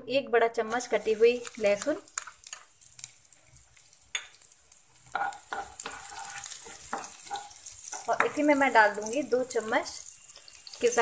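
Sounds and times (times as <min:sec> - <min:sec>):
garlic sizzling in oil: 0:00.5 - 0:11.0
spatula scraping pan: 0:00.8 - 0:11.0.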